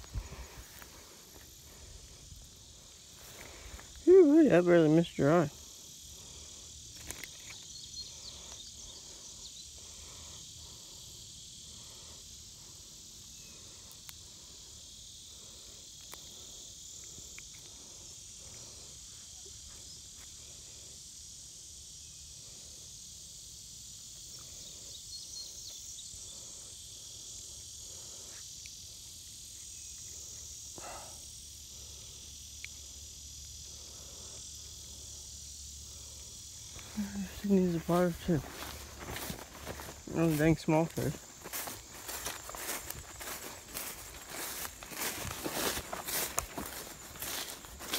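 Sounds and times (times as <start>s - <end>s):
insects chorus drone: 0.0s - 47.9s.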